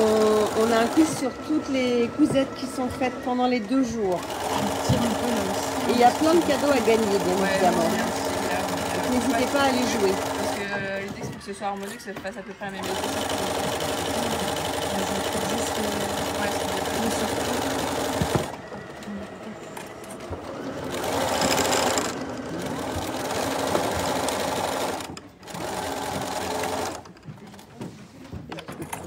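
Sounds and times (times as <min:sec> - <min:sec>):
sewing machine stitching: 0:00.0 - 0:27.6.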